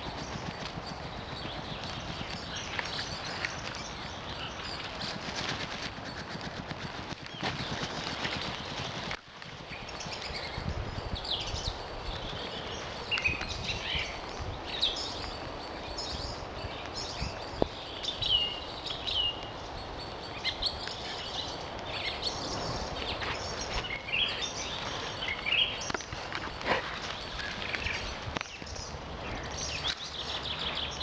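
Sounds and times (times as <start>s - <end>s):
songbirds chirping and singing: 0.0s - 6.4s, 7.1s - 31.0s.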